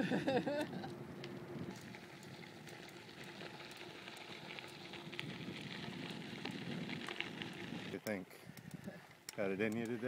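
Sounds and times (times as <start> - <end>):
bike tyres rolling on dirt: 0.1 - 10.0.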